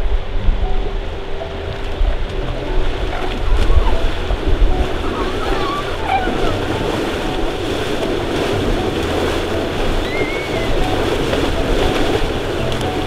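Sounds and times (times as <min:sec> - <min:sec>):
water splashing and churning: 0:00.0 - 0:13.0.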